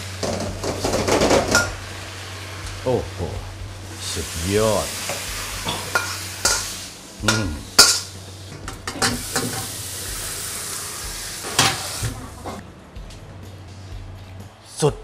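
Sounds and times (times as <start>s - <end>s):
food sizzling in a wok: 0.0s - 12.6s.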